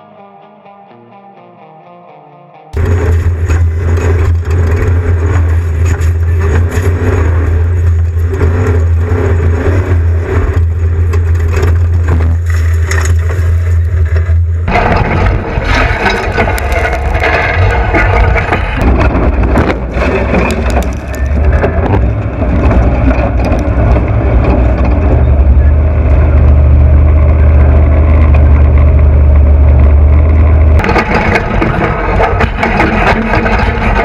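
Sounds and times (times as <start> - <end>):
knocks and rattles: 2.8 - 34.0
off-road vehicle engine drone: 2.8 - 34.0.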